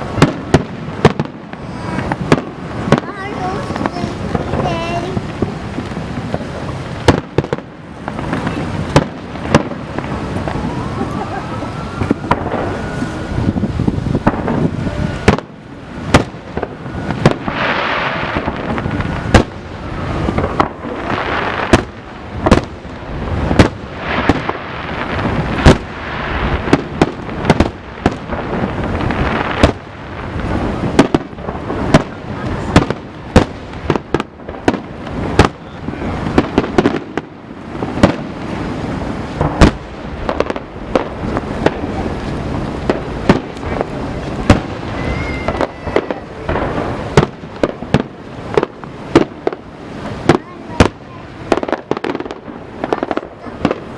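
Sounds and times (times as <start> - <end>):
firework booms: 0.0 - 53.9
firework crackling: 0.0 - 53.9.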